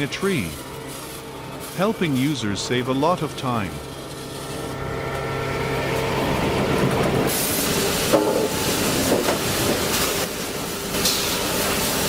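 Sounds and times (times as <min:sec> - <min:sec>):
machinery rattling and rumbling: 0:00.0 - 0:12.0.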